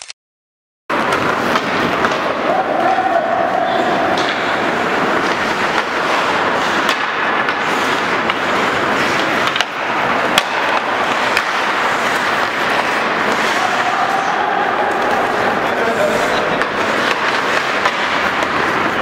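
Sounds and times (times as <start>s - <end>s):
hockey sticks and puck clacking: 0.9s - 19.0s
skates scraping on ice: 0.9s - 19.0s.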